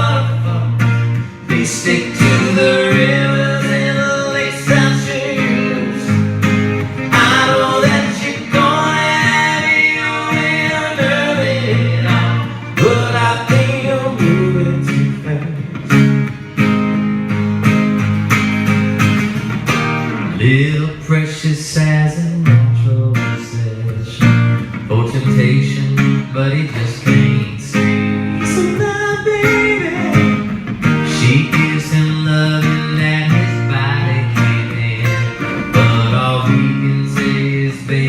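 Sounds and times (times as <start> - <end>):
man singing country music: 0.0 - 38.0
strummed acoustic guitar: 0.0 - 38.0.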